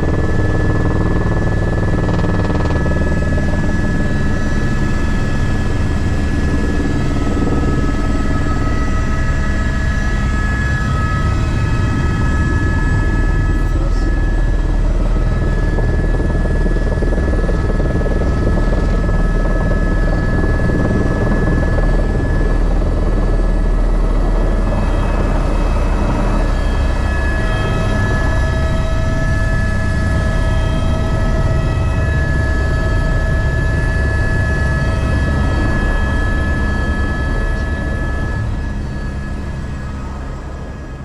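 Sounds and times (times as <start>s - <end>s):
helicopter drone: 0.0s - 41.0s.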